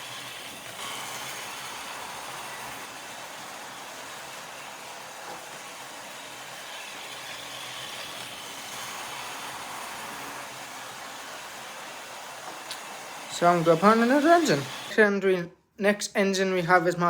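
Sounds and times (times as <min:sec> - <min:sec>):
wheels rolling along track: 0:00.0 - 0:14.9
model train motor whirring: 0:00.0 - 0:15.0.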